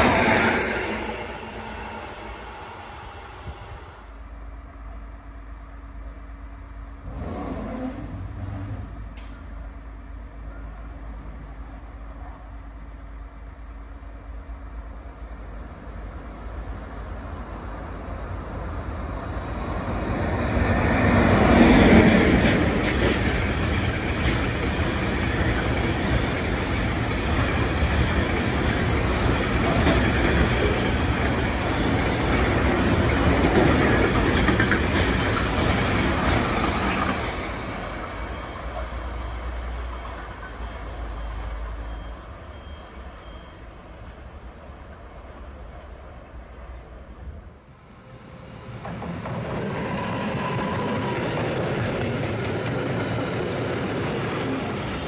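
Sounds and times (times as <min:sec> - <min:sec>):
freight train rumble: 0:00.0 - 0:55.0.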